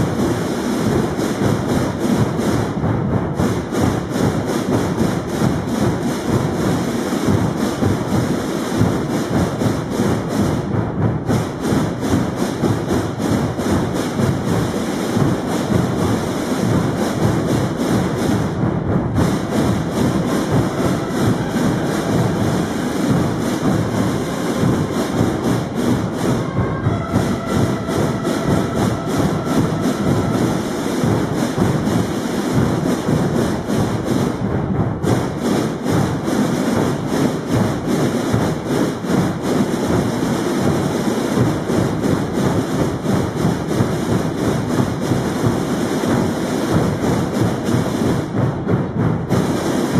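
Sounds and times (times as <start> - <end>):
drum corps playing: 0.0 - 49.9.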